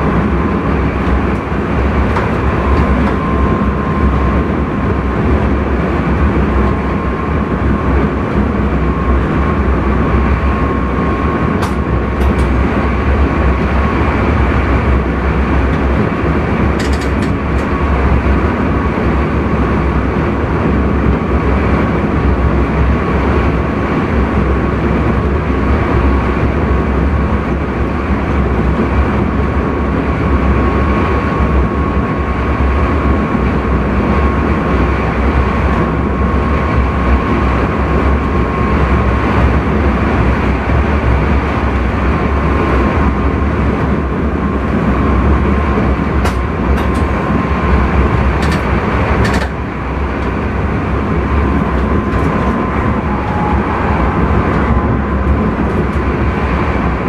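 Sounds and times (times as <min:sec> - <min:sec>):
faint constant whine: 0:00.0 - 0:57.0
train running rumble: 0:00.0 - 0:57.0.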